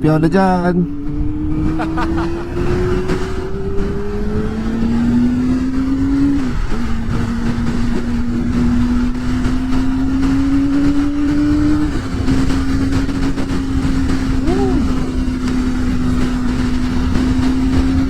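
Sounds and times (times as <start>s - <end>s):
motorcycle engine revving: 0.0s - 18.0s
wind rush: 0.0s - 18.0s.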